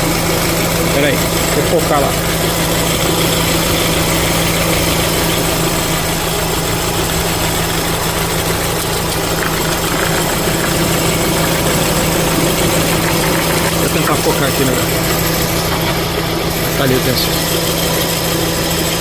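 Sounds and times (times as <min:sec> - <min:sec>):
car engine idling: 0:00.0 - 0:19.0
low growl from belt tensioner: 0:00.0 - 0:19.0.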